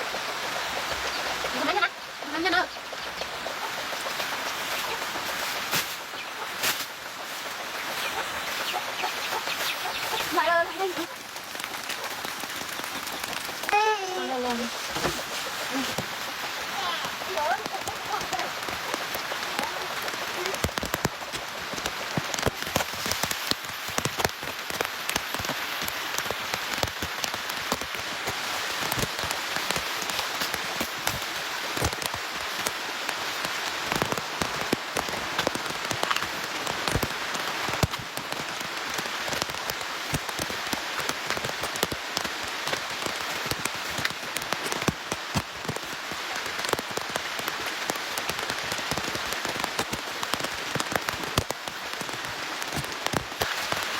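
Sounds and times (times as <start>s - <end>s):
rain falling: 0.0s - 53.9s
raindrops pattering on surfaces: 0.0s - 53.9s.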